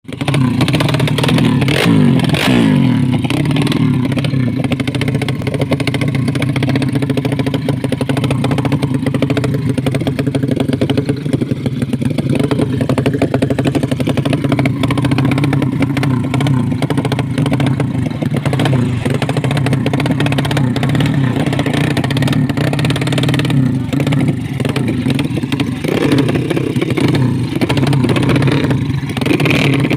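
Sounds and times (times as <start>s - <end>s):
motorcycle engine idling and revving: 0.0s - 29.9s.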